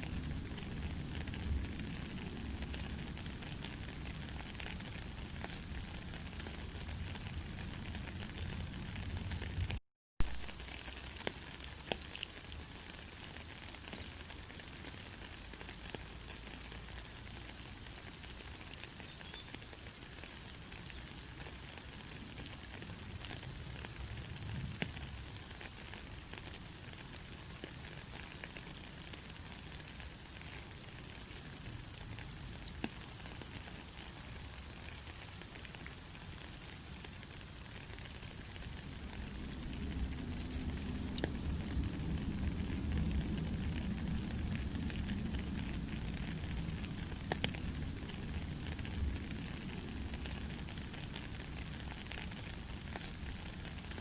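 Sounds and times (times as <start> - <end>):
faint crackles and ticks: 0.0 - 54.0
white noise hiss: 10.2 - 54.0.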